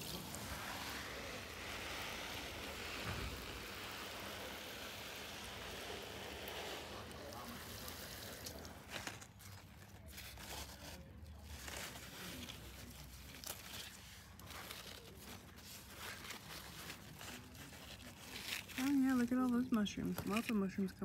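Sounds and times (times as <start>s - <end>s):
leaves rustling and crinkling: 0.0s - 21.0s
small crackles: 0.0s - 21.0s.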